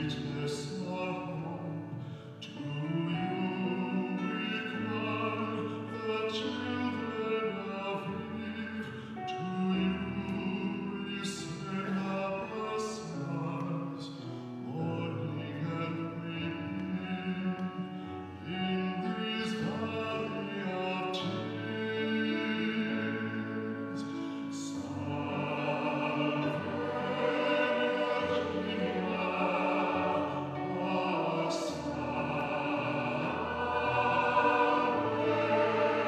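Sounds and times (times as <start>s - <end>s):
acoustic guitar: 0.0s - 36.0s
young man singing a hymn: 0.0s - 36.0s.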